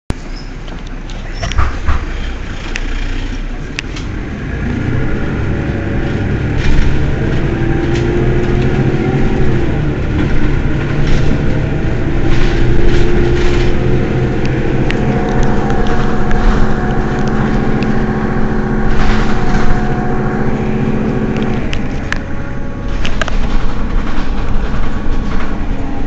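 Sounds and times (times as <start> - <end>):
bus engine rumbling: 0.1 - 26.0
steady engine whine: 0.1 - 26.0.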